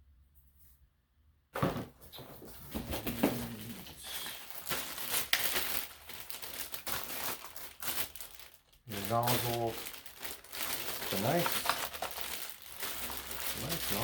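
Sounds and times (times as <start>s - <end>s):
packaging rustling and crinkling: 1.6s - 14.0s.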